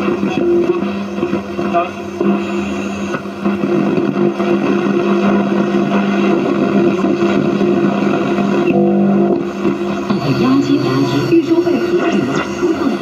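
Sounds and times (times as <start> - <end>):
constant hum: 0.0 - 13.0
radio static: 0.0 - 13.0.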